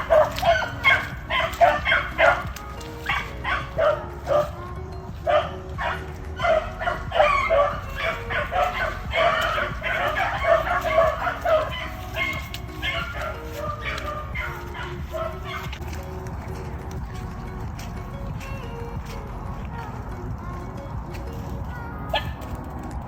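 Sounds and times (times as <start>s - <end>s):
dogs baying and yipping: 0.0s - 20.1s, 20.9s - 22.8s.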